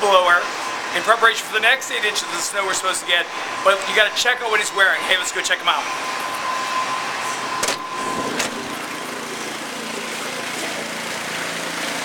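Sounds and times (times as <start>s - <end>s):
snow blower engine running: 2.0s - 12.0s.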